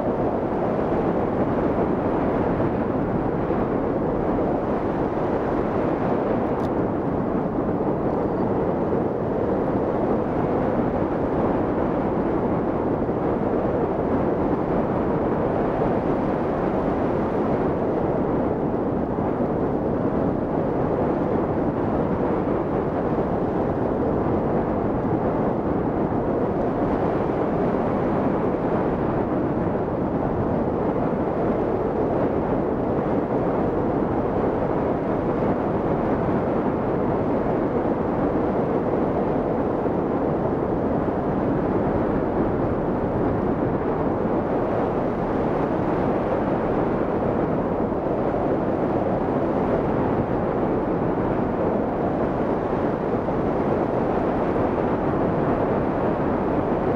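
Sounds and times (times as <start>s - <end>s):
wind noise on microphone: 0.0s - 56.9s.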